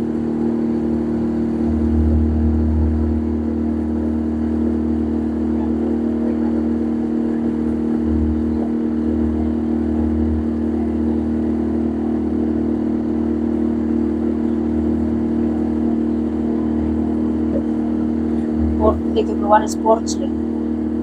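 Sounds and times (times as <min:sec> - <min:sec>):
boat motor droning: 0:00.0 - 0:21.0.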